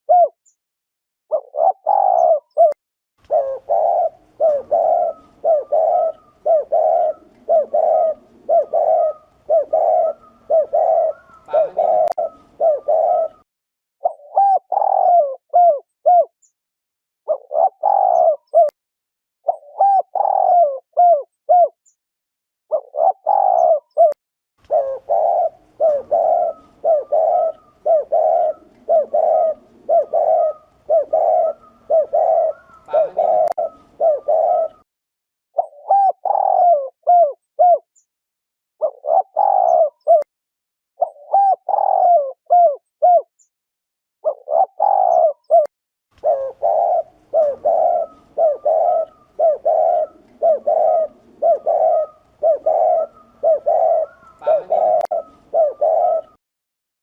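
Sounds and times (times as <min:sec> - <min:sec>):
dove cooing: 0:00.1 - 0:00.4, 0:01.3 - 0:13.4, 0:14.0 - 0:16.3, 0:17.3 - 0:18.8, 0:19.5 - 0:21.8, 0:22.7 - 0:34.8, 0:35.6 - 0:37.8, 0:38.8 - 0:40.3, 0:41.0 - 0:43.3, 0:44.2 - 0:56.4.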